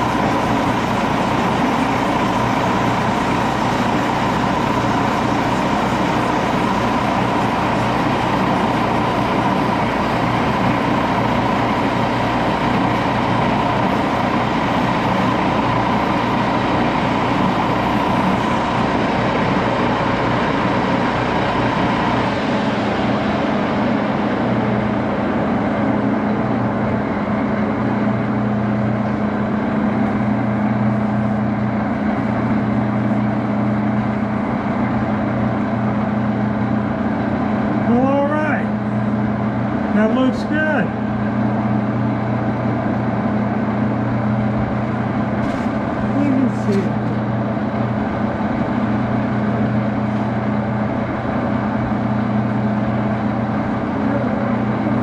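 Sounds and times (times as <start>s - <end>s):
lathe running: 0.0s - 55.0s.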